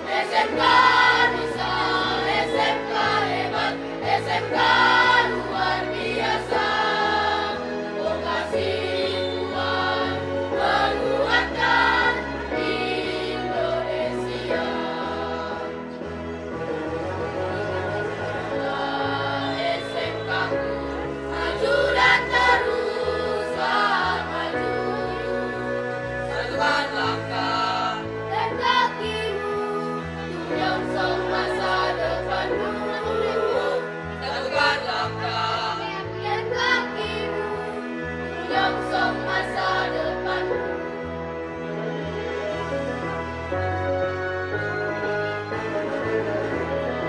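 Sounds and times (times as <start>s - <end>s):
choir singing: 0.0s - 43.0s.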